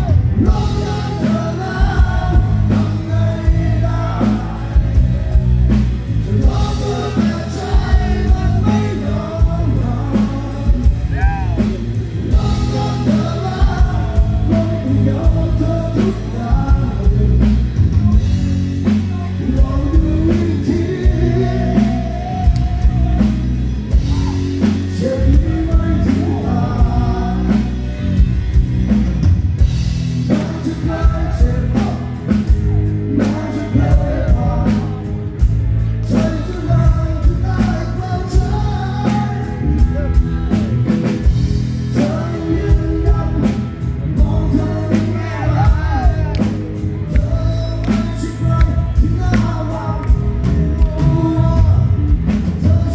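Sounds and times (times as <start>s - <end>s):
man singing through pa: 0.0s - 18.2s, 18.8s - 28.2s, 30.2s - 52.9s
rock band playing: 0.0s - 52.9s.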